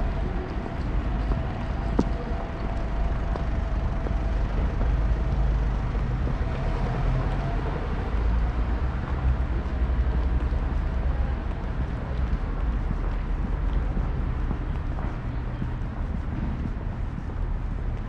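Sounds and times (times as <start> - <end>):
low rumble of vehicles: 0.0 - 18.0.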